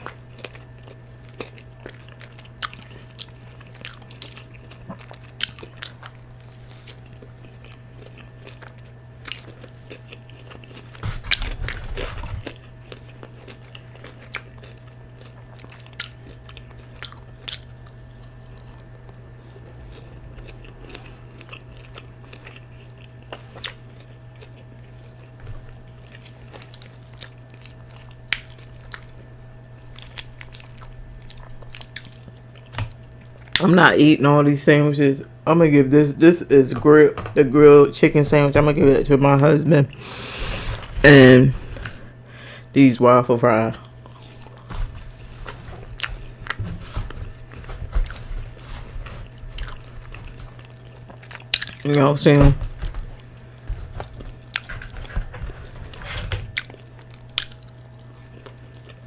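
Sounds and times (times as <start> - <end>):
chewing and lip smacking: 0.0 - 33.7, 43.7 - 52.0, 52.8 - 59.0.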